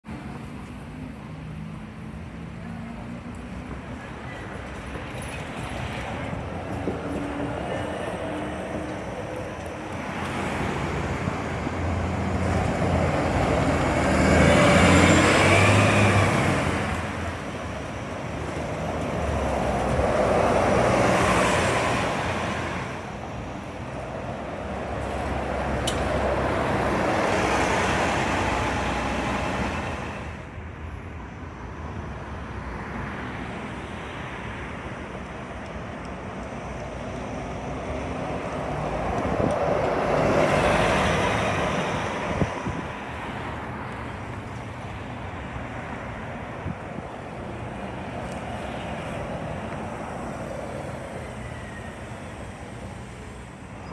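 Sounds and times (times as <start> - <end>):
buses driving past: 0.1 - 53.9.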